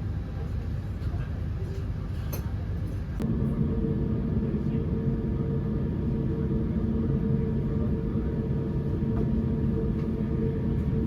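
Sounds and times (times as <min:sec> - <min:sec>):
airplane cabin rumble: 0:00.2 - 0:11.0.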